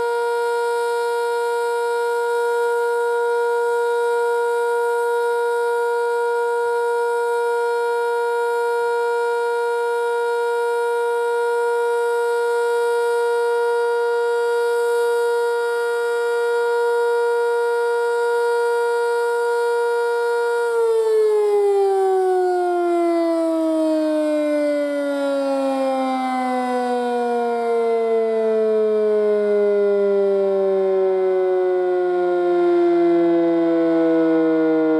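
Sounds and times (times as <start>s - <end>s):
warning siren steady tone: 0.0s - 34.9s.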